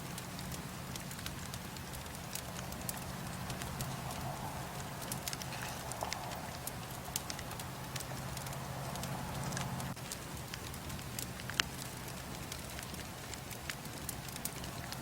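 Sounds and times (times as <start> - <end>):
bonfire crackling and popping: 0.0 - 15.0
low fire rumble: 0.0 - 15.0.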